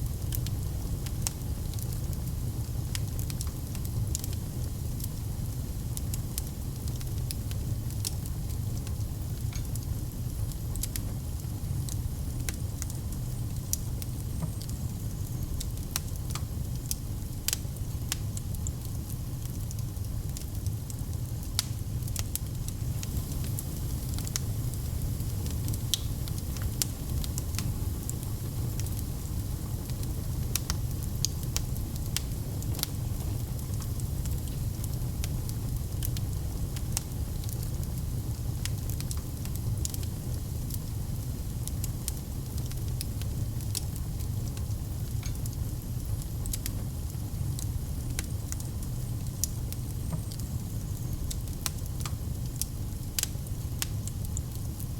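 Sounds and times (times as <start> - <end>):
log fire crackling and popping: 0.0 - 54.9.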